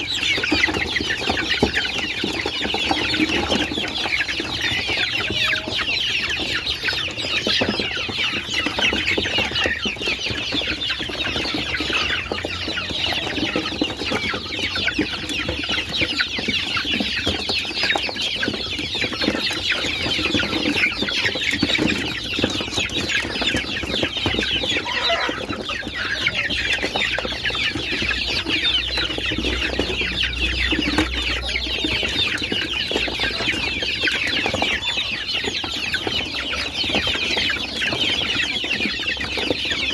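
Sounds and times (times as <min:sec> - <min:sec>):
chicks peeping and chirping: 0:00.0 - 0:39.9.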